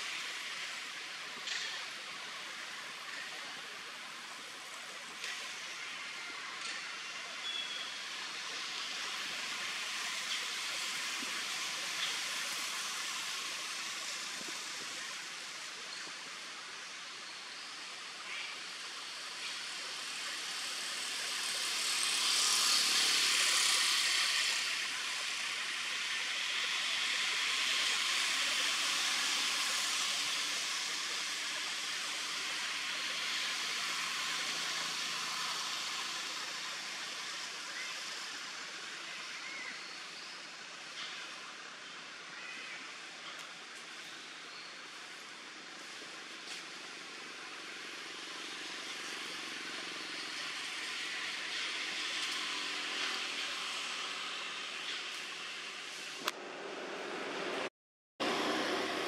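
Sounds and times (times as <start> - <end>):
forest ambience hiss: 0.0 - 56.3.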